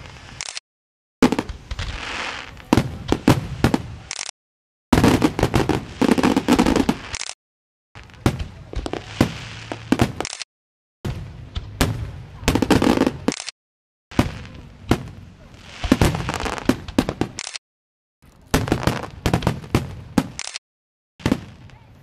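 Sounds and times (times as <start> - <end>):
fireworks cracking and banging: 1.2 - 4.3, 4.9 - 7.4, 8.0 - 13.5, 14.1 - 17.6, 18.2 - 20.6, 21.2 - 22.0.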